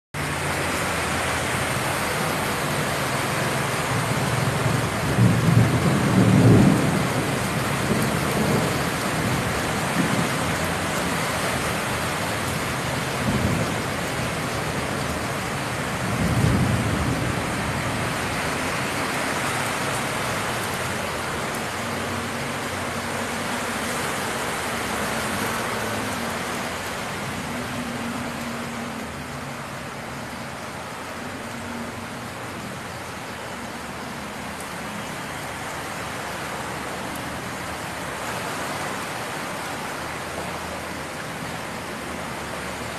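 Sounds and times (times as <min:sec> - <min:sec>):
heavy rain and running water: 0:00.1 - 0:42.9.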